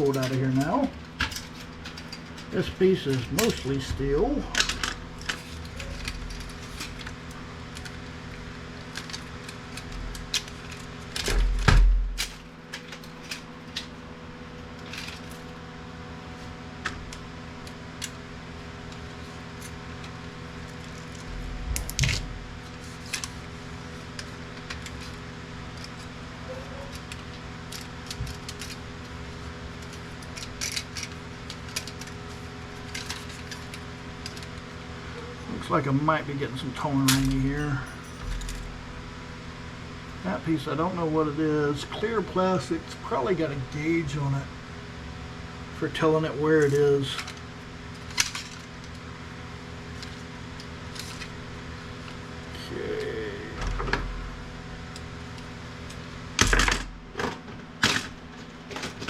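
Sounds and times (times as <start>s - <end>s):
low hum: 0.0s - 46.4s, 47.1s - 57.2s.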